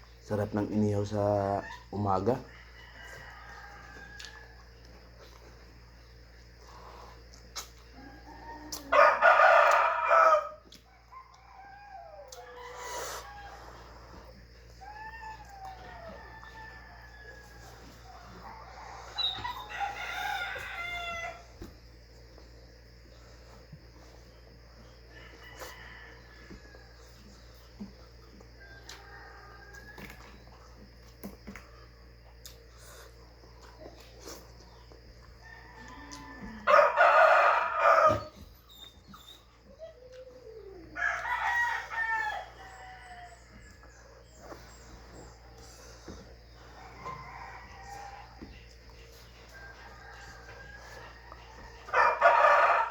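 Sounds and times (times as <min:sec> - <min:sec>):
rooster crowing: 0:00.3 - 0:05.5, 0:07.9 - 0:21.8, 0:23.9 - 0:30.9, 0:35.2 - 0:52.9.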